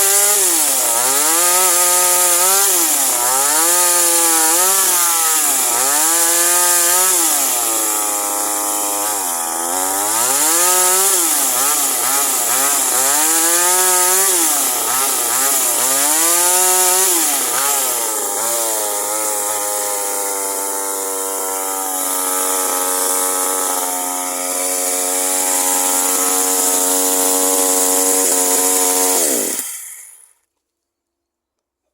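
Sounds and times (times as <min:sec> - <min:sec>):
chainsaw engine cutting: 0:00.0 - 0:30.4.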